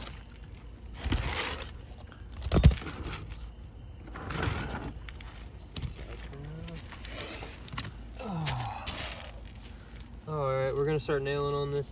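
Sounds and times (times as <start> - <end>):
shingle scraping and rustling: 0.0 - 10.2.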